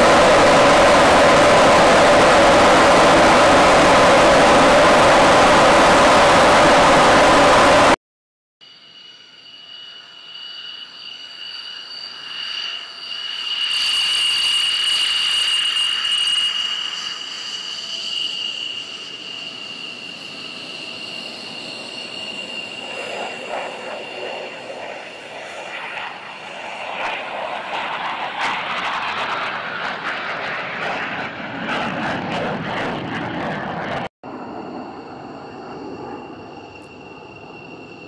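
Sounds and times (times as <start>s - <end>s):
fighter jet roar rolling down runway: 0.0s - 8.0s, 9.9s - 38.0s
jet engine whine and roar: 0.0s - 8.0s, 9.2s - 38.0s.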